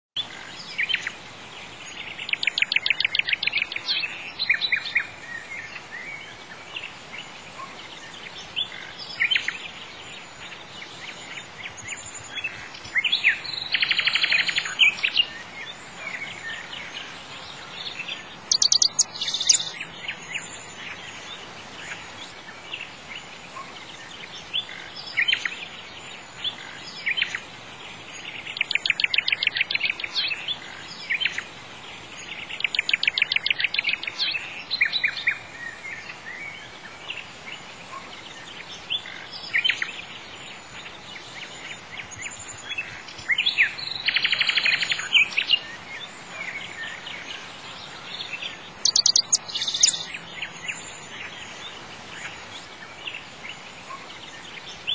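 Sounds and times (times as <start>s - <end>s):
faint steady hiss: 0.2s - 54.9s
nightingale singing: 0.2s - 54.9s.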